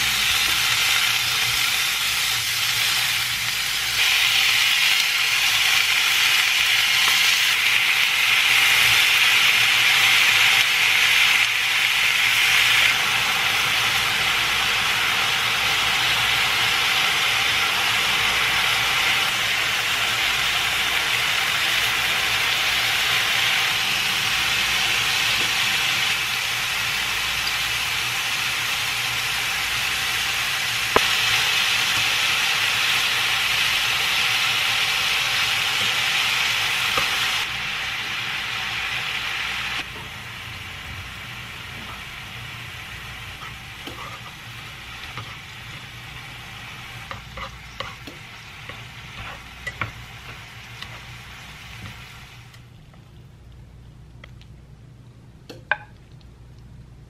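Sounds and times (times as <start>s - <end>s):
meat sizzling in a wok: 0.0s - 52.6s.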